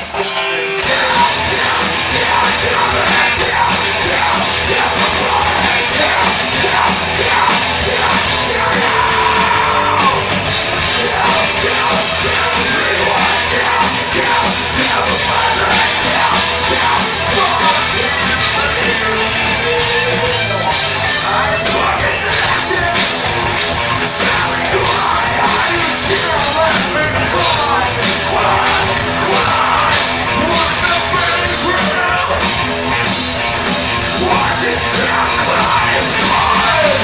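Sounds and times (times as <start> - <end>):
live rock band playing: 0.0 - 37.0
shouted vocals: 0.0 - 37.0.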